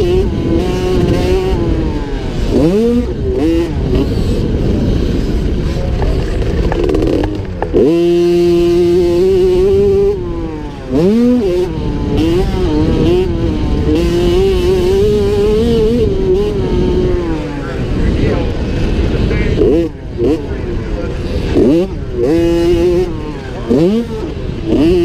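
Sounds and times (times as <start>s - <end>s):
motocross bike engine revving: 0.0s - 25.0s
wind rushing over microphone: 0.0s - 25.0s.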